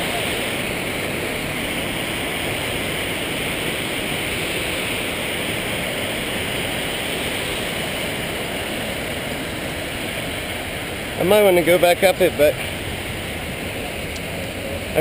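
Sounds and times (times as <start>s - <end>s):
water rushing down waterfall: 0.0s - 15.0s.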